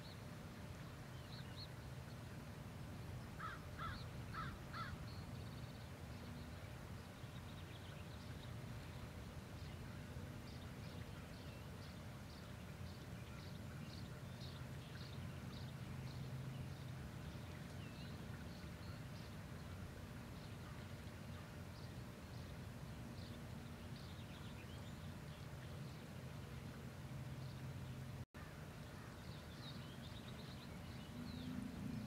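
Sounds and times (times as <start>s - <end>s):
low steady hum: 0.0s - 32.0s
small birds chirping: 0.0s - 32.0s.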